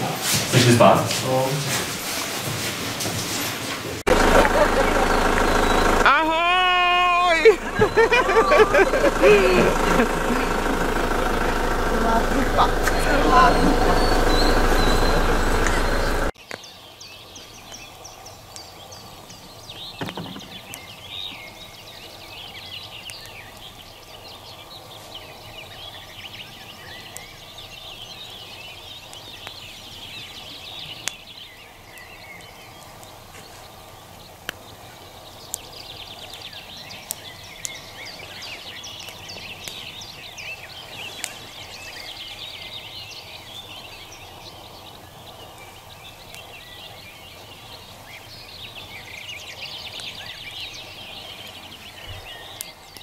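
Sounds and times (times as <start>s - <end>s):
birds chirping and trilling: 4.1s - 53.0s.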